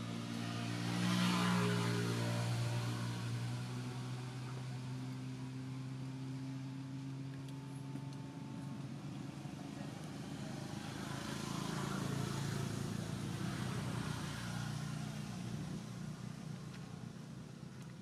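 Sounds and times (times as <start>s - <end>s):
motor vehicle passing by: 0.0s - 18.0s.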